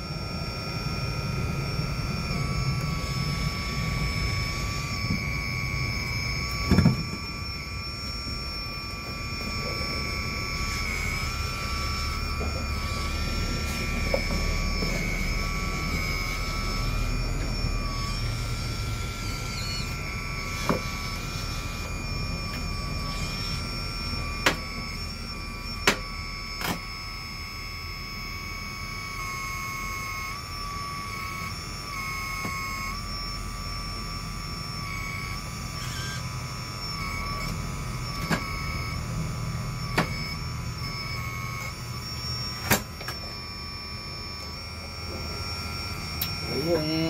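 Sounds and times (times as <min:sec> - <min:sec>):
hydraulic pump whining: 0:00.0 - 0:47.0.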